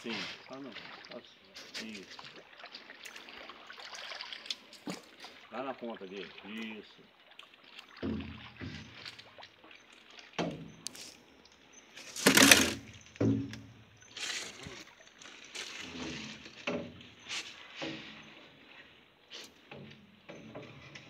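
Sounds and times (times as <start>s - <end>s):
canoe paddle splashing in water: 0.0s - 21.0s.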